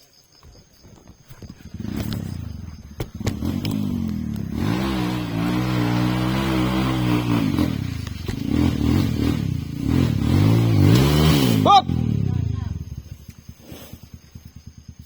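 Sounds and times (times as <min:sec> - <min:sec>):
motorcycle engine revving: 0:00.4 - 0:15.0.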